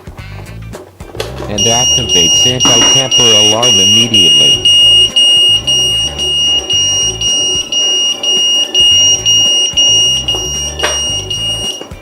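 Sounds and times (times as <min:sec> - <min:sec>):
background music: 0:00.0 - 0:12.0
high-pitched alarm tone: 0:01.6 - 0:12.0.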